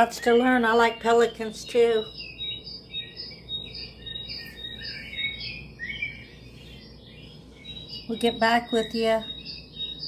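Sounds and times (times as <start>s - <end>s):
small birds chirping: 0.0s - 10.0s
thin steady high tone: 0.0s - 10.0s.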